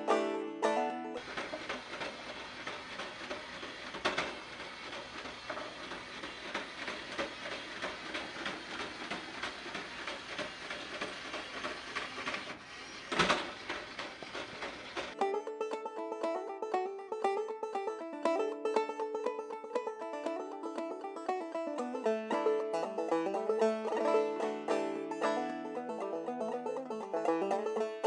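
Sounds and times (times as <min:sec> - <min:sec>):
toy train wheels clattering: 0:01.1 - 0:28.0.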